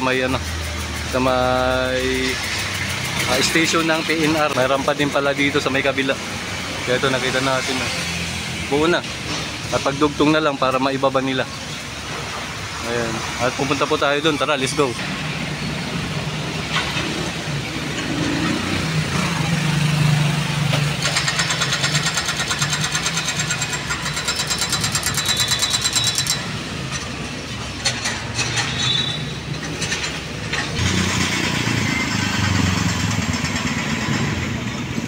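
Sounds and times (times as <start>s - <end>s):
motorcycles passing: 0.0s - 35.0s.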